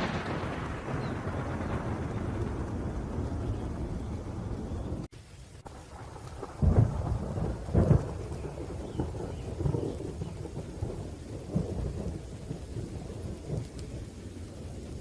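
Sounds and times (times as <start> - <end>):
loud thunder claps: 0.0 - 5.1, 5.7 - 15.0
rolling thunder: 0.0 - 15.0
steady rain: 0.0 - 15.0.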